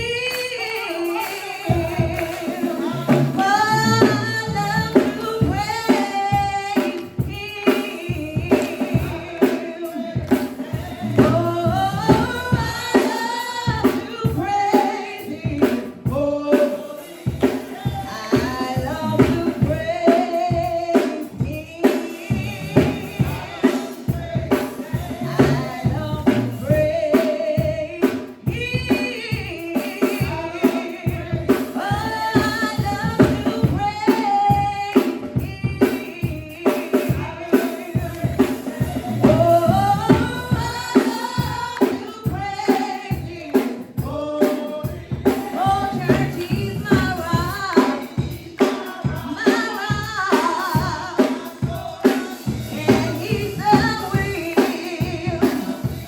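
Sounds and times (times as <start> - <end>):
drum kit beat: 0.0 - 56.0
gospel singing: 0.0 - 56.0.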